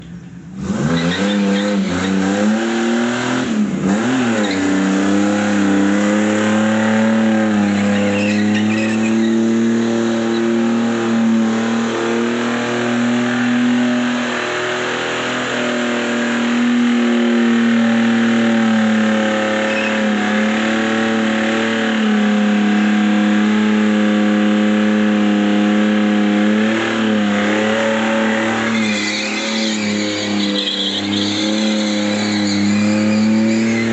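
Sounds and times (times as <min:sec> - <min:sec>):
tyres screeching: 0:00.0 - 0:02.7, 0:03.9 - 0:22.1, 0:26.5 - 0:33.9
car engine at high revs: 0:00.0 - 0:33.9.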